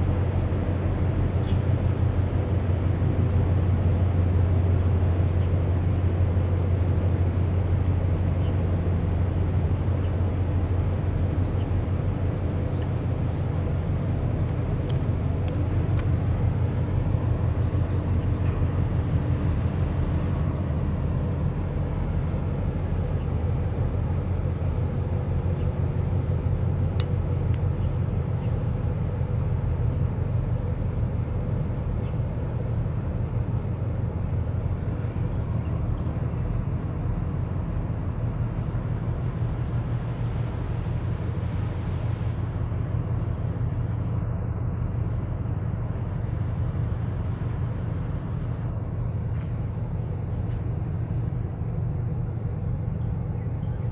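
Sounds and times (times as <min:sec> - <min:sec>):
low buffeting roar: 0:00.0 - 0:53.9
ship engine rumble: 0:00.0 - 0:53.9.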